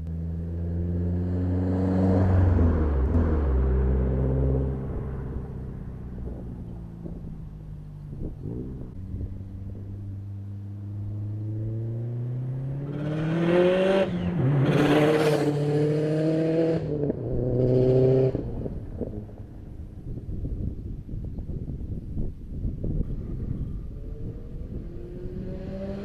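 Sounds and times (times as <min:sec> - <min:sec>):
car engine accelerating hard: 0:00.0 - 0:19.3, 0:24.0 - 0:26.0.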